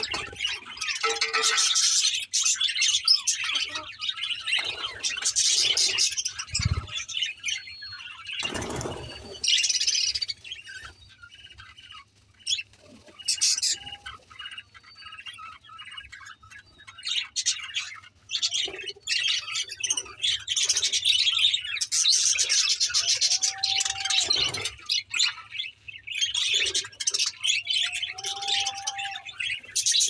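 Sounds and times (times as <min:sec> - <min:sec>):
budgerigars chirping and warbling: 0:00.0 - 0:30.0.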